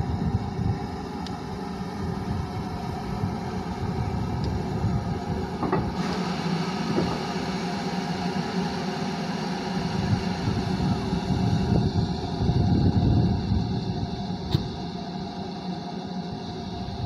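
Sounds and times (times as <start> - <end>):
steam hissing: 0.0 - 17.0
steam locomotive rumble: 0.0 - 17.0.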